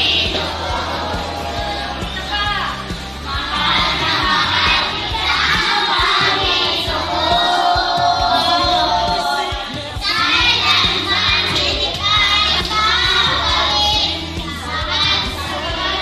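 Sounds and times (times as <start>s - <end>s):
children singing: 0.0s - 2.3s, 3.1s - 16.0s
backing music with bass line: 0.0s - 16.0s.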